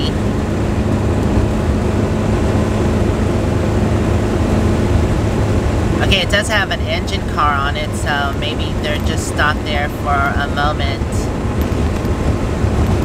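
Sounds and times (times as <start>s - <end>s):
motorhome engine droning: 0.0s - 13.0s
tyre-on-road noise: 0.0s - 13.0s.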